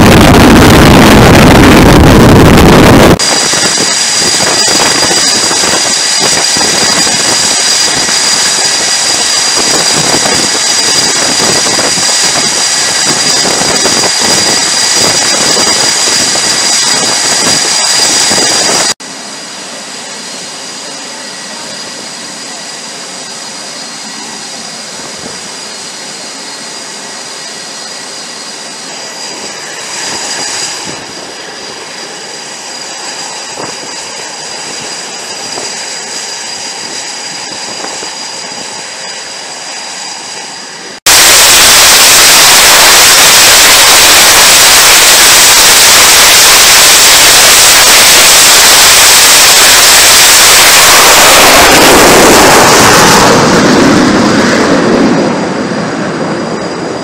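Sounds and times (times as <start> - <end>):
jet engines whining: 0.0 - 57.0
loud jet noise at high power: 0.0 - 57.0.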